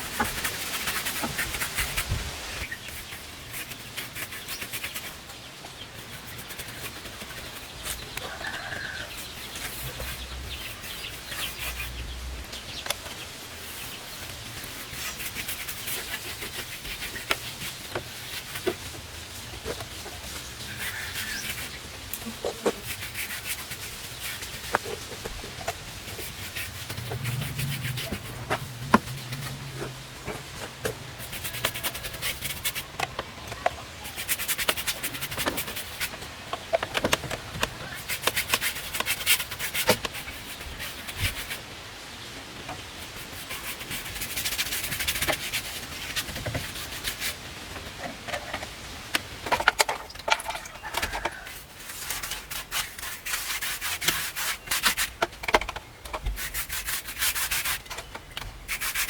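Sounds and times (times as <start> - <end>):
scraping on a gritty surface: 0.0 - 5.3, 5.9 - 41.6, 49.4 - 59.0.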